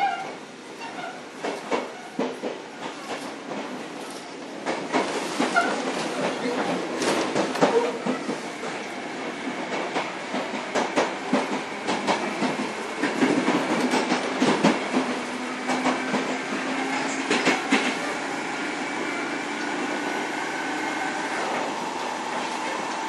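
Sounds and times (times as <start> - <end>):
train rolling rumble: 0.0 - 23.0
train wheels clicking over rail joints: 0.0 - 23.0.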